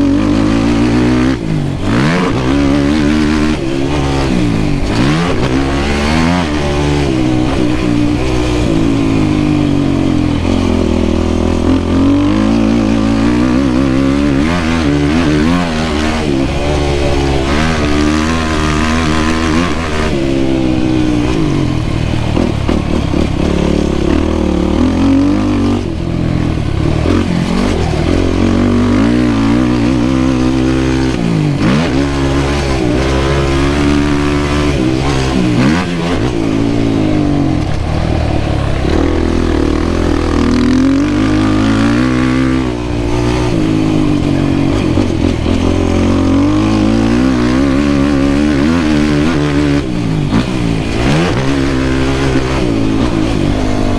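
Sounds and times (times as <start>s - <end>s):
quad engine revving: 0.0s - 53.9s.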